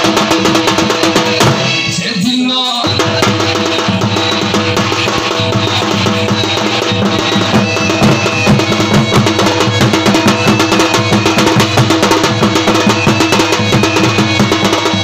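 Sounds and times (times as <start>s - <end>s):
drums playing quick rhythm: 0.0s - 15.0s
sustained melody: 2.8s - 15.0s.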